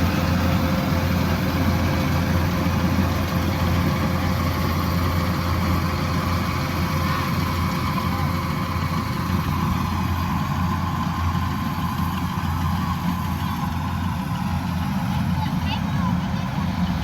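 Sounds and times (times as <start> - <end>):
combine harvester engine humming: 0.0 - 17.0.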